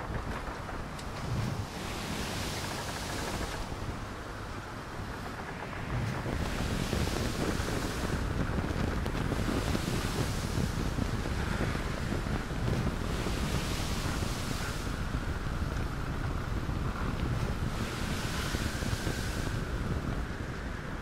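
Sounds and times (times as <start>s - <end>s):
water rushing past boat hull: 0.0s - 21.0s
wind buffeting microphone: 0.0s - 21.0s.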